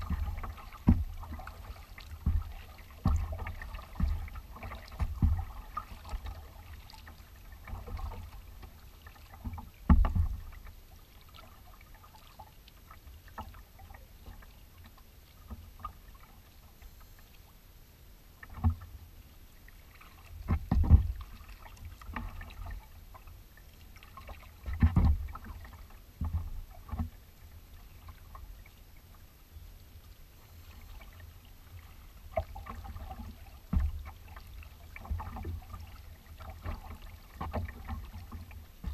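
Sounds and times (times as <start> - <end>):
paddle thuds and splashes: 0.0 - 16.3, 18.4 - 19.0, 19.7 - 27.2, 30.7 - 38.9
small waves slapping boat: 0.0 - 38.9
water lapping along hull: 0.0 - 38.9.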